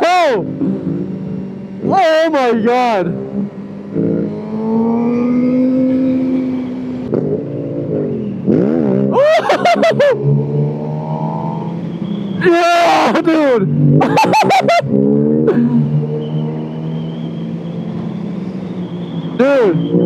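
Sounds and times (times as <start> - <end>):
sport bike engines revving: 0.0 - 20.0.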